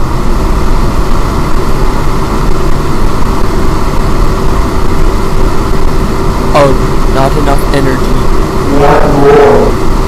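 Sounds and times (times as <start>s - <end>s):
electric fan motor drone: 0.0s - 10.0s.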